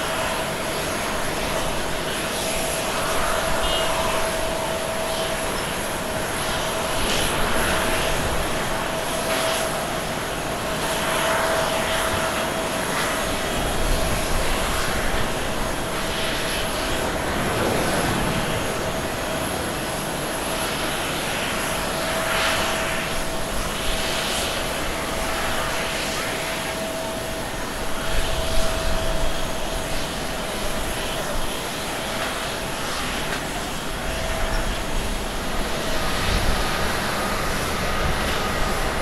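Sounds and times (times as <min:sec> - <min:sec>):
jet engines at takeoff: 0:00.0 - 0:39.0.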